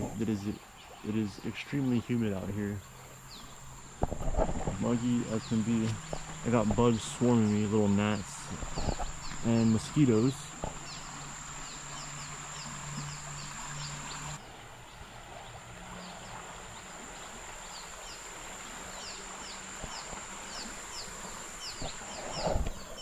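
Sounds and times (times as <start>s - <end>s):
insects droning high buzz: 0.0s - 23.0s.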